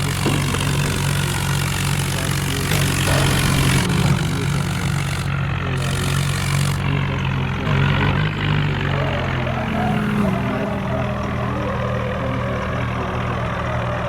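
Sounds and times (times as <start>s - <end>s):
broad mechanical noise: 0.0s - 14.0s
vehicle engines running loudly: 0.0s - 14.0s.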